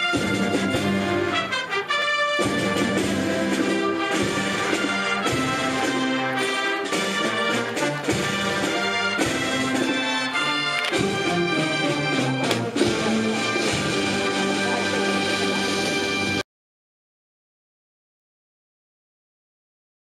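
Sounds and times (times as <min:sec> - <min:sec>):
orchestral music with brass: 0:00.0 - 0:16.4.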